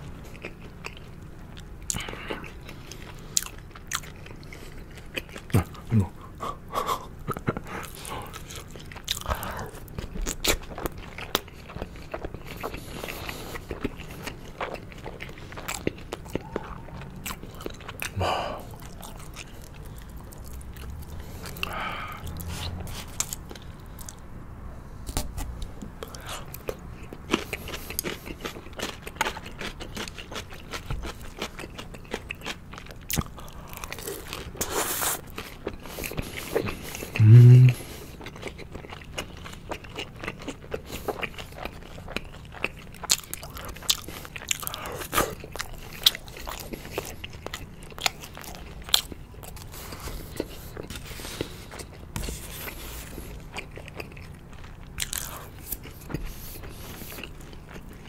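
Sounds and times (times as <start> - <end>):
chewing and crunching fried chicken: 0.0 - 58.0.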